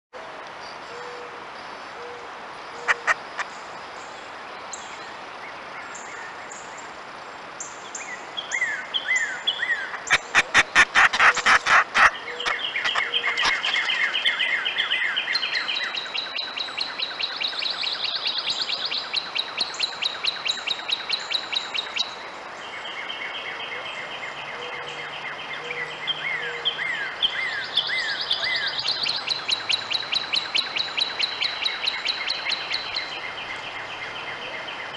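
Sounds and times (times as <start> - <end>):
bird chirping: 2.8 - 5.1, 7.6 - 34.9.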